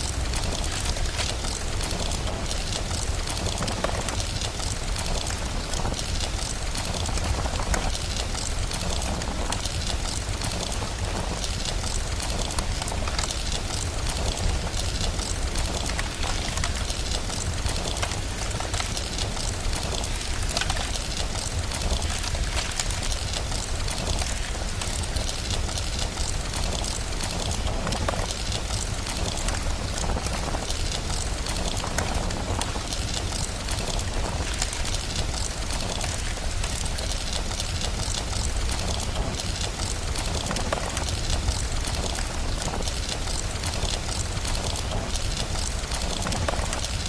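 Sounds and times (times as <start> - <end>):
fire crackling: 0.0 - 47.0
steady rain: 0.0 - 47.0.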